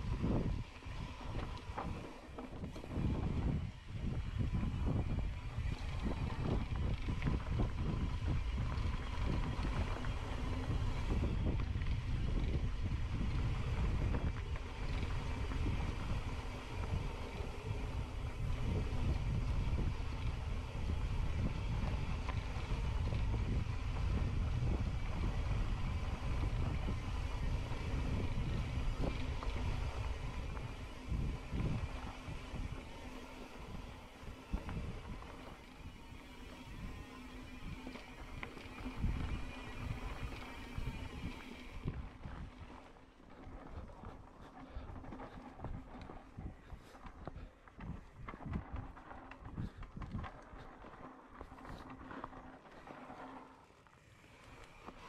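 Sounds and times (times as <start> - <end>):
wind buffeting microphone: 0.0 - 52.8.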